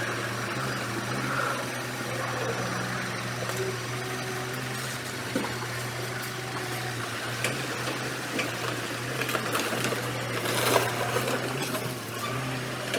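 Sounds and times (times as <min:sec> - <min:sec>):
heavy diesel engine running: 0:00.0 - 0:12.9.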